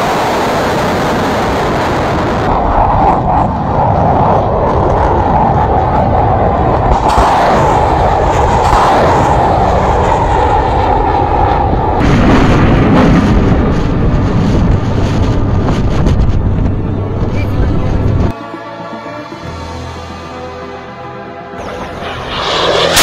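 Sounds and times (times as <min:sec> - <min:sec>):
rocket motors roaring: 0:00.0 - 0:18.3, 0:21.6 - 0:23.0.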